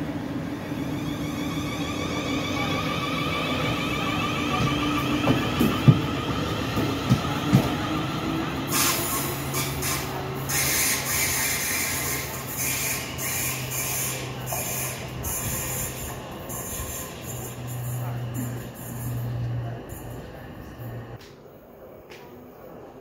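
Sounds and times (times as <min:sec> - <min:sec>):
train traction motor whine: 0:00.2 - 0:21.2.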